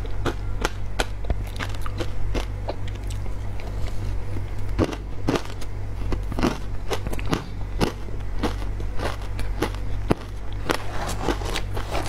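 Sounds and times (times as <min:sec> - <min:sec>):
ice crunching being chewed: 0:00.0 - 0:12.0
low hum: 0:00.0 - 0:12.0.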